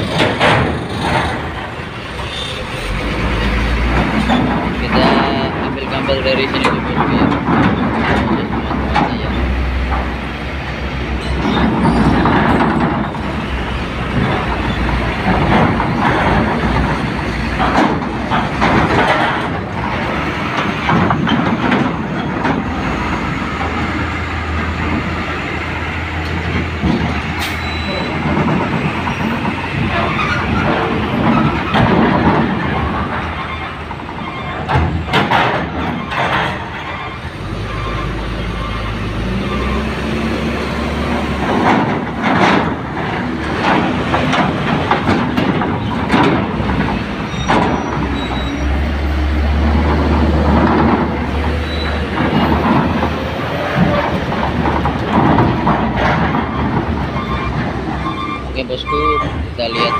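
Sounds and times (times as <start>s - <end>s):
steel ramp plates clanking: 0.0s - 59.9s.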